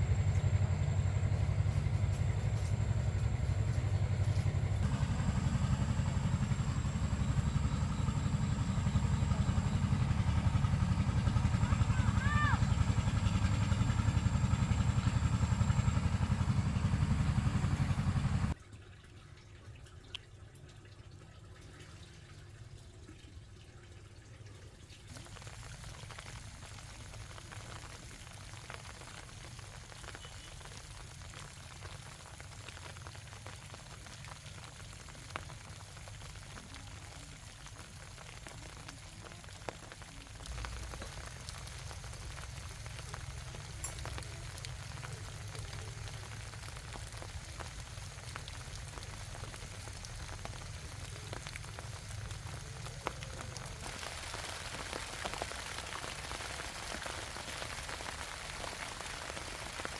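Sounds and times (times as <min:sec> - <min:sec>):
rain falling: 0:00.0 - 0:18.6, 0:25.1 - 0:59.9.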